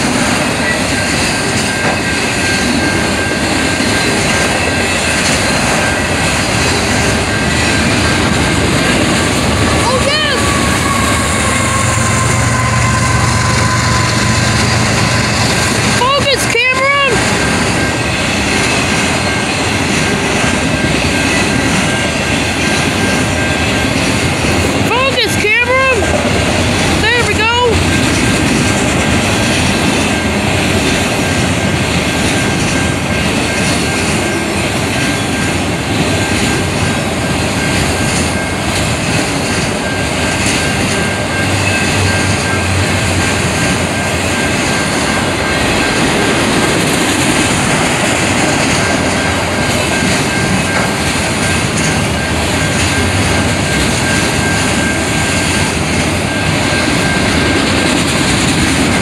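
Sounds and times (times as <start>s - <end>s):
crossing bell ringing: 0.0s - 59.0s
freight train wheels on rails: 0.0s - 59.0s.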